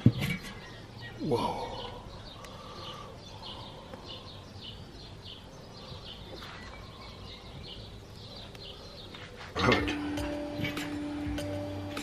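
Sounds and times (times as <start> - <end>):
bird chirping: 0.0 - 12.0
low background noise: 0.0 - 12.0.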